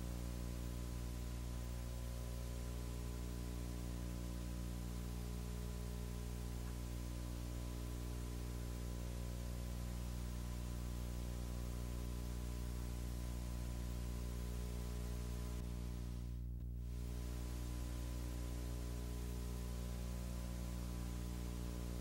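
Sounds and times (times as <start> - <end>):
electrical hum: 0.0 - 22.0
steady hiss: 0.0 - 22.0.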